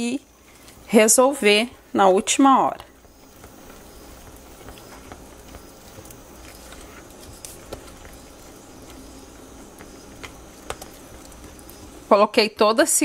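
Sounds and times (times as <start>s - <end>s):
whisk stirring thick batter: 0.5s - 12.1s.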